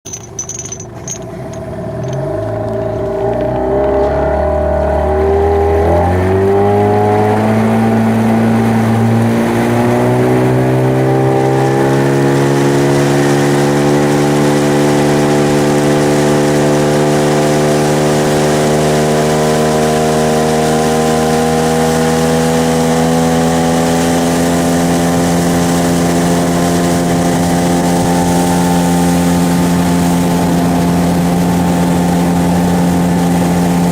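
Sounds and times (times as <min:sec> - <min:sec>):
outboard motor speeding up: 0:00.2 - 0:33.9.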